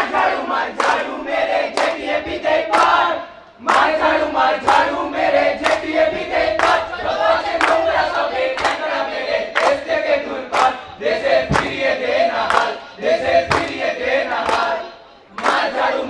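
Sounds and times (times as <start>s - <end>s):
young voices singing in unison: 0.0s - 16.0s.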